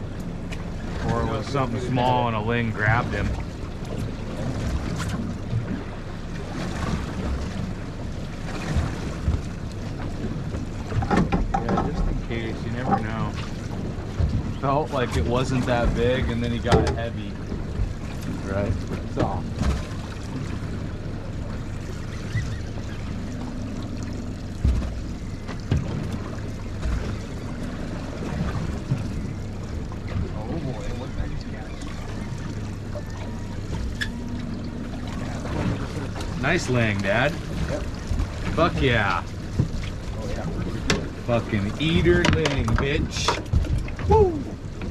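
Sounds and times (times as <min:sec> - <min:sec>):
water sloshing against boat hull: 0:00.0 - 0:44.9
wind: 0:00.0 - 0:44.9.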